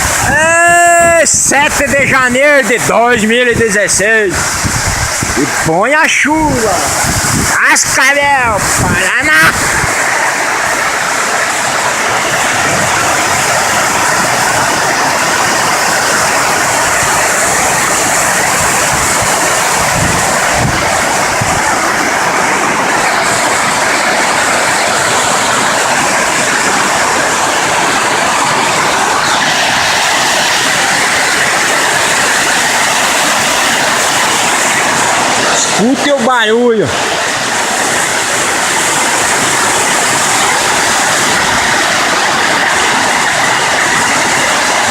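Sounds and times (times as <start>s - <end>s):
heavy rain on shed roof: 0.0s - 44.9s.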